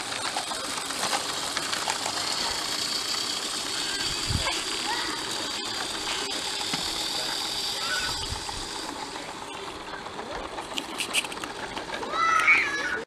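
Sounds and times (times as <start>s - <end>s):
steam locomotive hissing: 0.0s - 11.7s.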